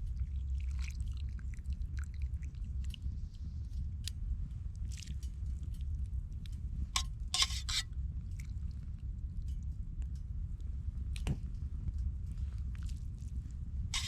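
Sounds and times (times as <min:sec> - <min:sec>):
low fire rumble: 0:00.0 - 0:14.0.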